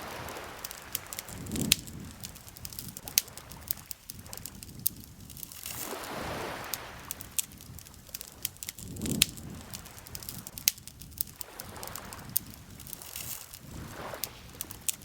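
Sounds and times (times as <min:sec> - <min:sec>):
campfire crackling and popping: 0:00.0 - 0:15.0
rushes of fire noise: 0:00.0 - 0:15.0.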